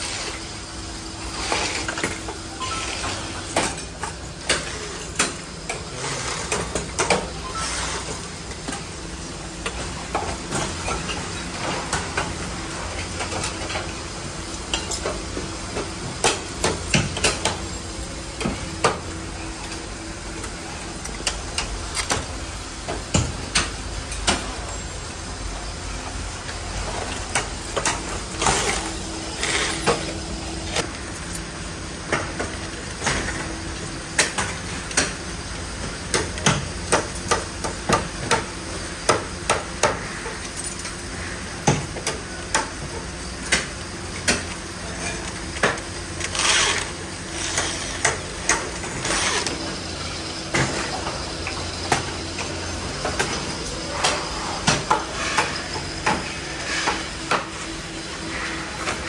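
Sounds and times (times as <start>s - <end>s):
machinery hum: 0.0s - 59.0s.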